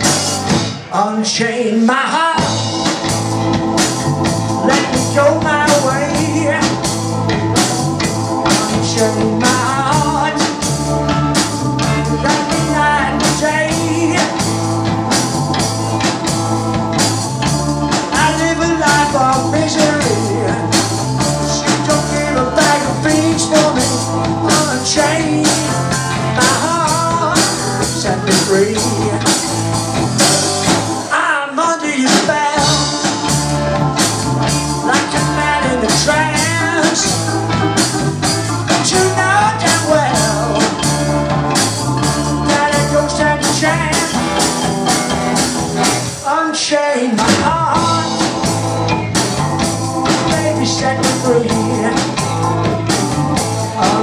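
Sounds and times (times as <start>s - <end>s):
blues-rock band playing: 0.0s - 1.4s, 2.1s - 54.0s
person singing: 0.7s - 3.7s, 4.5s - 7.5s, 8.3s - 16.1s, 17.5s - 29.8s, 31.0s - 45.2s, 46.1s - 48.7s, 50.0s - 54.0s.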